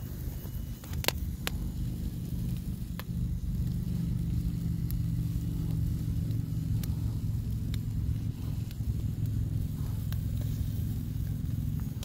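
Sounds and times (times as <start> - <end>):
low hum: 0.0 - 12.0
sharp fire pops: 0.0 - 12.0
wood fire crackling: 0.0 - 12.0.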